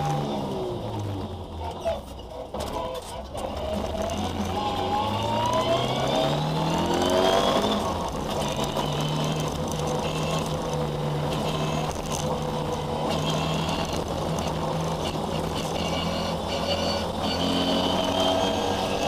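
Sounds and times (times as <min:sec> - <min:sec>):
car engine revving: 0:00.0 - 0:01.8, 0:02.4 - 0:19.0.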